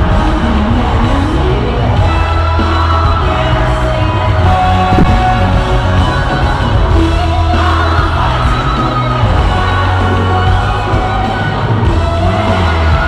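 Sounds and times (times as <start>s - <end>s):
live pop concert music: 0.0s - 13.0s.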